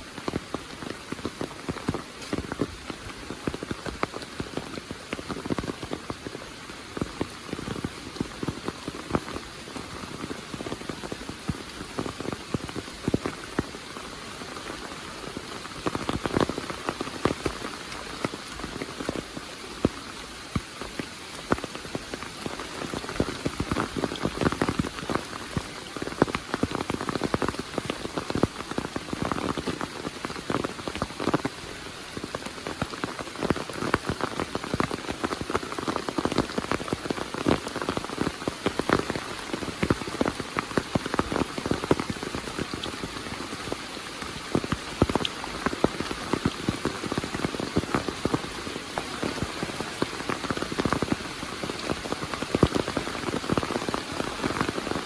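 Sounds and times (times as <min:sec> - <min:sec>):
heavy rain pouring: 0:00.0 - 0:55.0
raindrops striking close by: 0:00.0 - 0:55.0.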